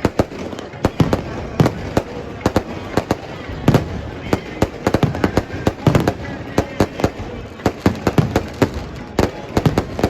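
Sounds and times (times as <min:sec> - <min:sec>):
faint voices: 0:00.0 - 0:10.0
firecrackers banging: 0:00.0 - 0:10.0.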